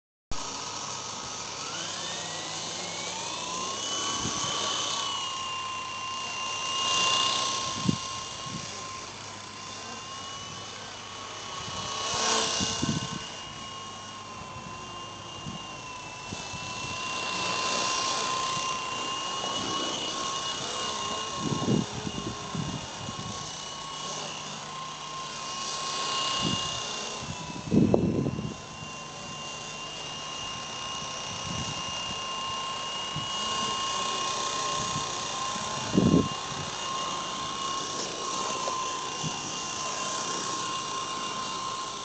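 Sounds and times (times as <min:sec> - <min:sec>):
electric motor whine: 0:00.3 - 0:42.0
helicopter rotor noise: 0:00.3 - 0:42.0.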